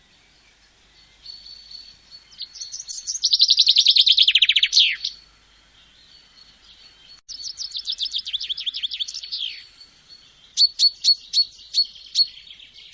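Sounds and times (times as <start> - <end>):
songbird singing: 0.0 - 12.9
faint high chirping: 0.1 - 12.9.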